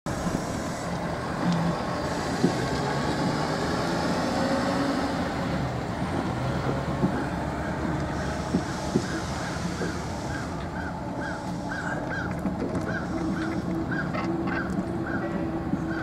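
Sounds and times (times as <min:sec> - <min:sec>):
golf cart motor and road noise: 0:00.1 - 0:16.0.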